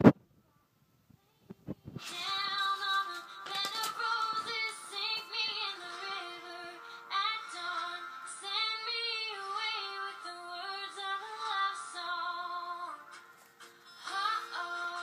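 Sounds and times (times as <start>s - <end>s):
woman singing: 2.0s - 13.2s, 14.0s - 15.0s
background music: 2.0s - 15.0s.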